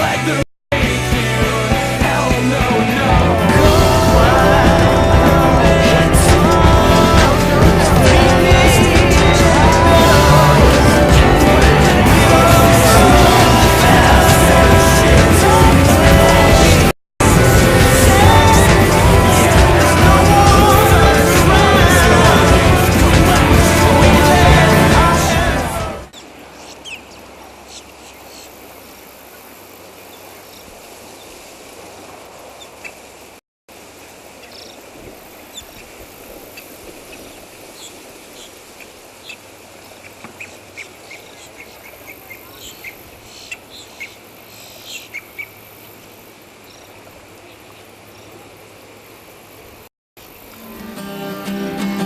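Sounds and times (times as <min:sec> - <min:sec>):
steady low hiss: 0:00.9 - 0:52.0.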